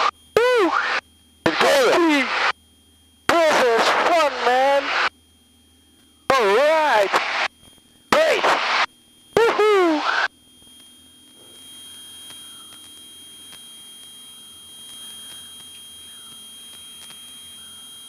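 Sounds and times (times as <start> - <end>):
high-pitched electronic whine: 0.0 - 18.0.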